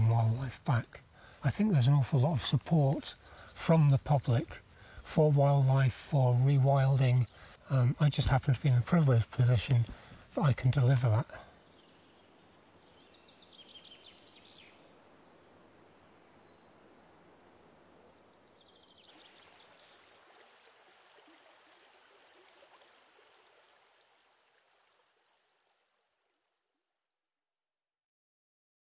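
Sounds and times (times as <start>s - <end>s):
soft outdoor hiss: 0.0s - 27.0s.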